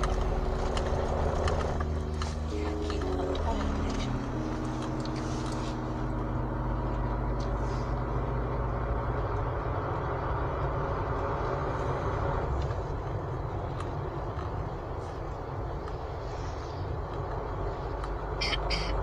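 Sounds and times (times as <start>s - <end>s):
car engine drone: 0.0s - 19.0s
road and wind noise: 0.0s - 19.0s.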